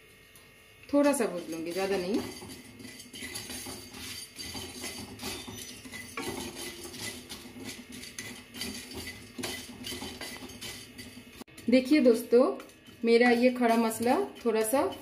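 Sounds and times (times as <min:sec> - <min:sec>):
wooden spatula scraping spices: 0:01.0 - 0:15.0.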